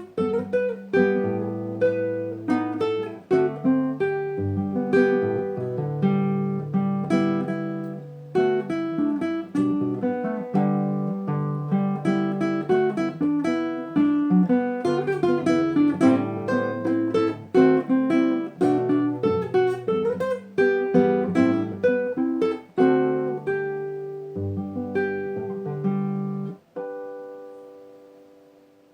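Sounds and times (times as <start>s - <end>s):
acoustic guitar playing: 0.0s - 28.9s.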